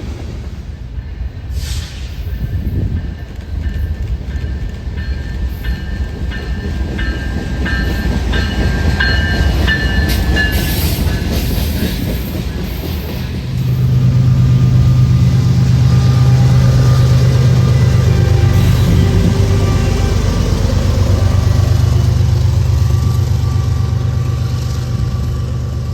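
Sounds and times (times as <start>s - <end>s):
train wheels clacking: 0.9s - 25.9s.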